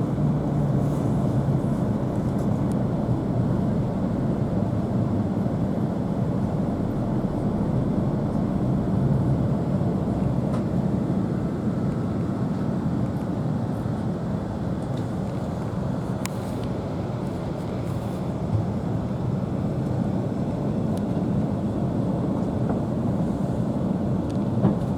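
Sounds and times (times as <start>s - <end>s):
train rumble from inside car: 0.0s - 24.9s.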